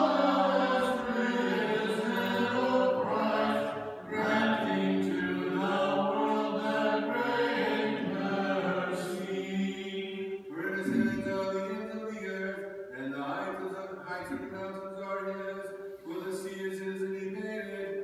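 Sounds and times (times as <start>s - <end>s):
a cappella liturgical chant: 0.0s - 17.8s.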